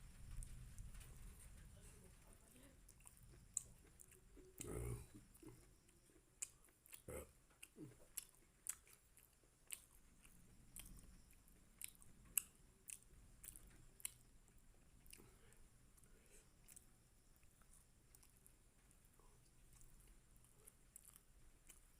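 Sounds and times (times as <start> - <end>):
person chewing: 2.9 - 21.9.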